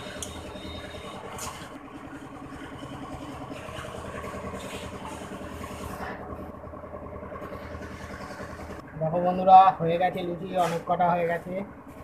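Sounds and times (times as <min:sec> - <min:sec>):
low pulsing mechanical hum: 0:00.0 - 0:12.0.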